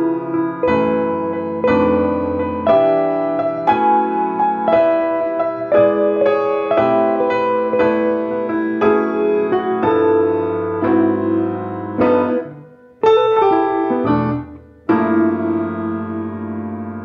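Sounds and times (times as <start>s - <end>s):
grand piano: 0.0s - 17.0s.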